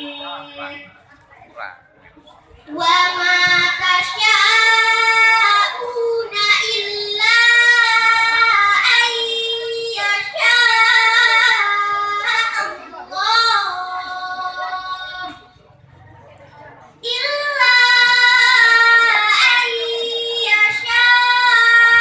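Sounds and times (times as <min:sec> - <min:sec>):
girl reciting in melodic sung style: 0:00.0 - 0:00.9, 0:02.7 - 0:15.5, 0:17.0 - 0:22.0.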